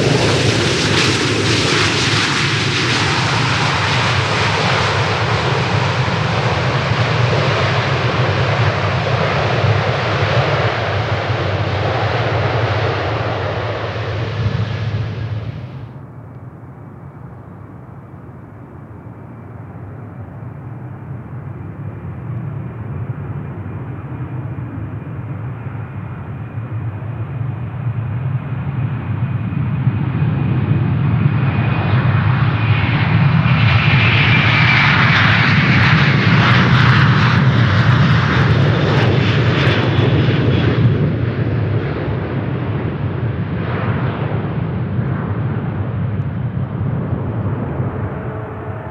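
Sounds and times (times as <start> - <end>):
jet engines passing by: 0.0 - 48.9.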